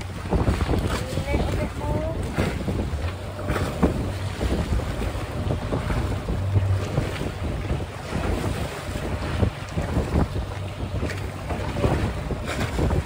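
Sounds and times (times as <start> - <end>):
water rushing and splashing: 0.0 - 13.0
wind buffeting microphone: 0.0 - 13.0.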